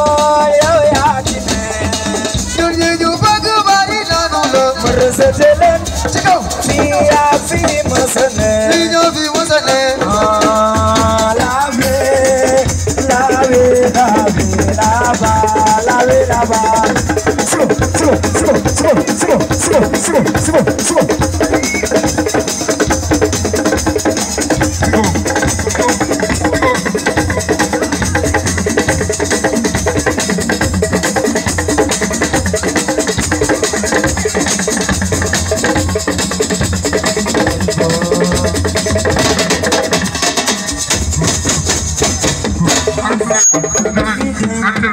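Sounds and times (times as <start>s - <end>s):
drums beating: 0.0s - 44.9s.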